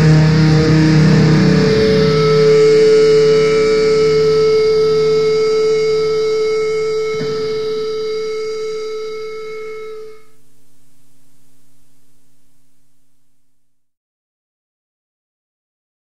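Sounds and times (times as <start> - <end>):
black metal held chord: 0.0 - 13.8
low tone: 0.0 - 13.9.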